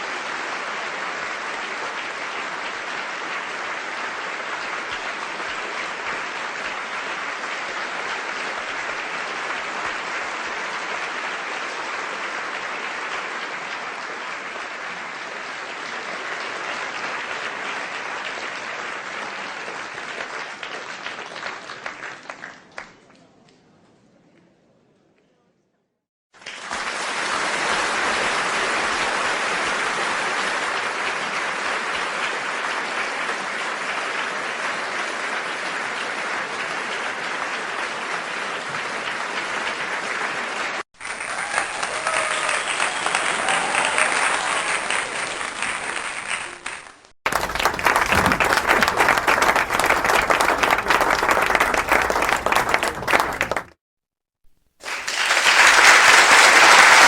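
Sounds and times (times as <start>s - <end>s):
crowd applause: 0.0s - 23.0s, 26.4s - 53.8s, 54.8s - 57.0s.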